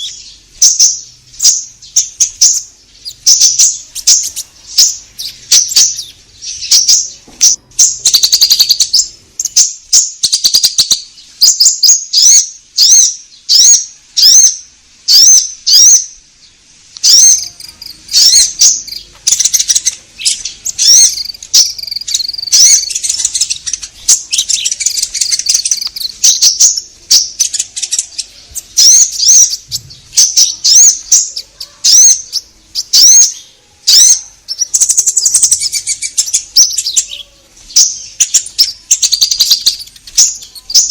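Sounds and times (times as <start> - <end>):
bird chirps and trills: 0.0 - 40.9.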